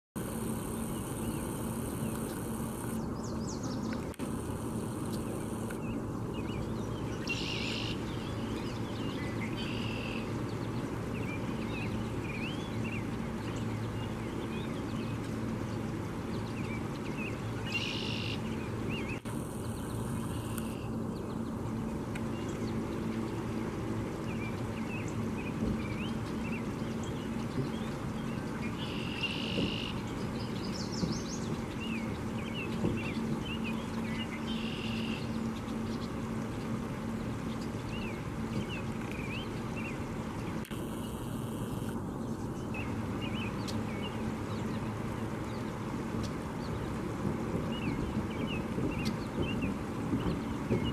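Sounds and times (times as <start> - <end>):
low steady hum: 0.2 - 50.9
songbirds chirping: 0.2 - 50.9.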